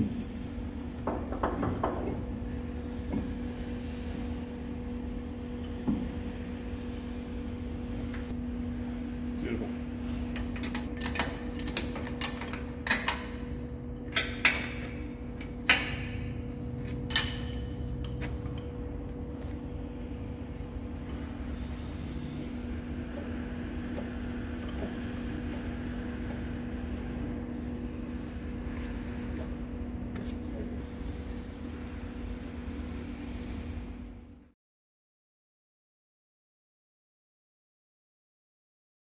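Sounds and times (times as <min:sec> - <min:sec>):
steady machine hum: 0:00.0 - 0:34.6.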